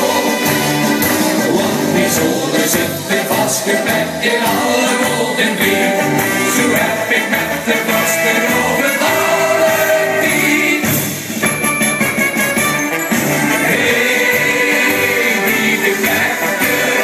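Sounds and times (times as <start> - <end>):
group of singers singing: 0.0 - 11.3, 13.3 - 17.0
amplified instrumental accompaniment: 0.0 - 17.0.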